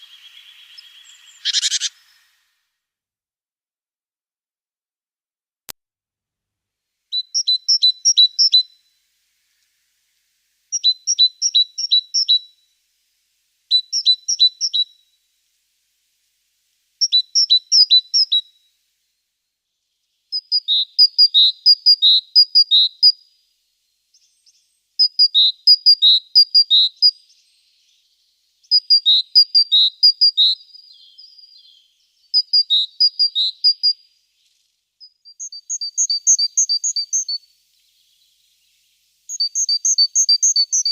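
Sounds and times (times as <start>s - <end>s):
small bird chirping: 0.0s - 2.6s, 7.1s - 12.8s, 13.7s - 15.2s, 17.0s - 18.8s, 19.6s - 40.9s.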